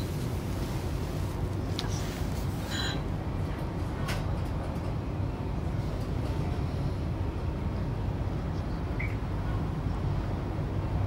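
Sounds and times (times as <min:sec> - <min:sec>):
tram wheels rumbling: 0:00.0 - 0:11.0.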